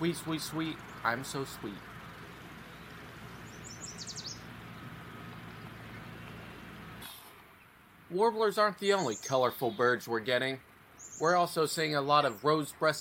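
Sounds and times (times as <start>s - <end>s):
bird singing: 0.0s - 7.7s, 8.6s - 13.0s.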